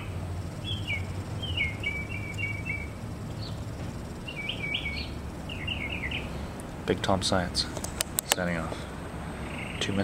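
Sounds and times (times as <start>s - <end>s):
low steady rumble: 0.0s - 10.0s
small birds chirping: 0.0s - 10.0s.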